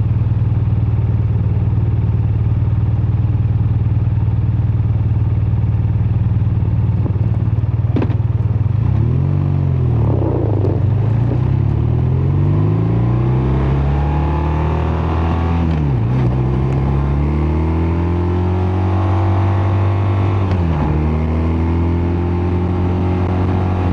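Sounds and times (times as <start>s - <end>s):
motorcycle engine and exhaust: 0.0s - 23.9s.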